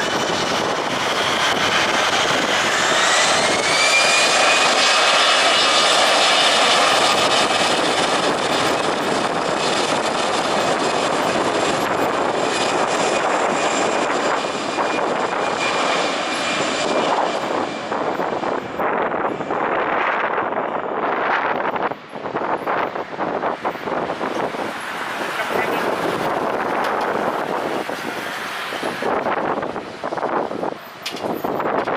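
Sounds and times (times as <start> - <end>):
jet airliner engines roaring: 0.0 - 31.9.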